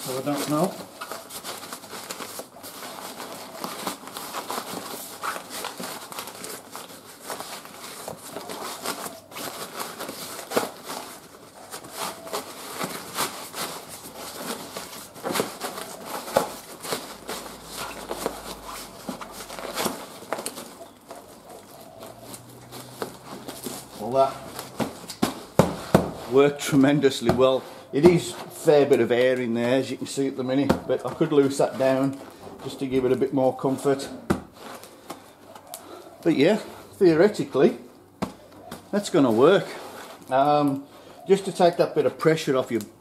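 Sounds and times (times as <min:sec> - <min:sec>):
nylon pad rustling and crinkling: 0:00.0 - 0:43.0.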